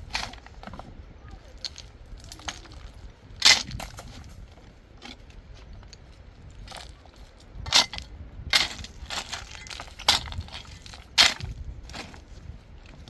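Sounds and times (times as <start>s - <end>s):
stones knocking together: 0.0s - 0.9s, 1.5s - 12.3s.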